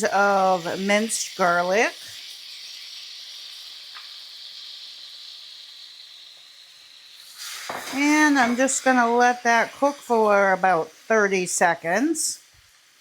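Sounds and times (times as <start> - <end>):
garlic sizzling in a skillet: 0.0 - 13.0.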